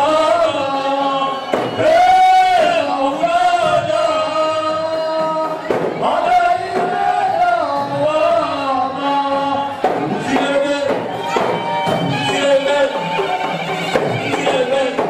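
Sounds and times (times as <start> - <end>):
crowd noise: 0.0 - 15.0
group of voices singing: 0.0 - 15.0.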